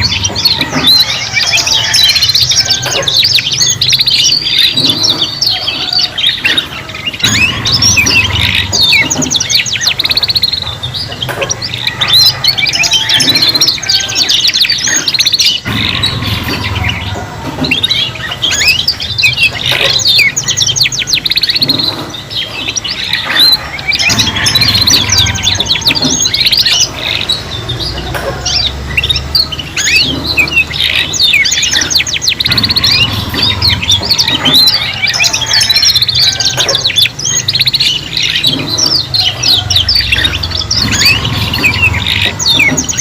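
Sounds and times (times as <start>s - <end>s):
canaries singing trills: 0.0s - 43.0s.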